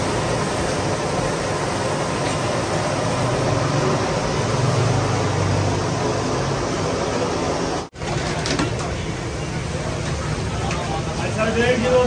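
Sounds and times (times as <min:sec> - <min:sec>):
hot oil sizzling: 0:00.0 - 0:08.1, 0:08.7 - 0:12.0.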